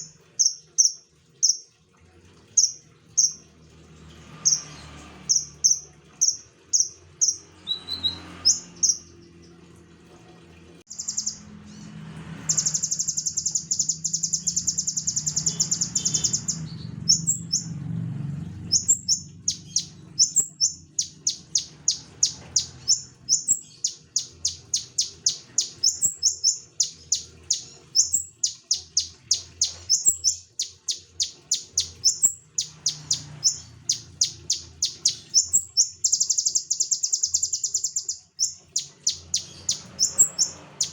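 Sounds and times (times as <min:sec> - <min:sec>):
songbird trilling and chattering: 0:00.0 - 0:01.6, 0:02.6 - 0:03.4, 0:05.3 - 0:09.0, 0:10.9 - 0:11.4, 0:12.5 - 0:17.8, 0:18.6 - 0:40.9.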